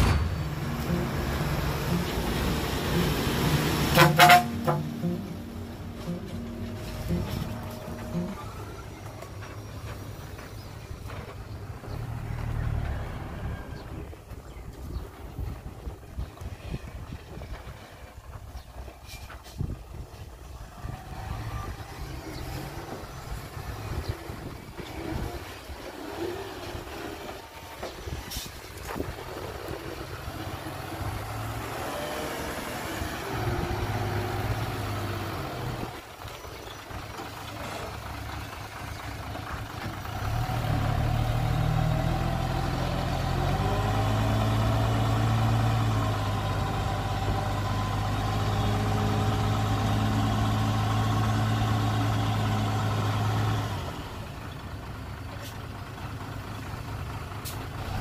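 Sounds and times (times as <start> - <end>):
dump truck diesel engine revving: 0.0 - 14.2, 20.5 - 58.0.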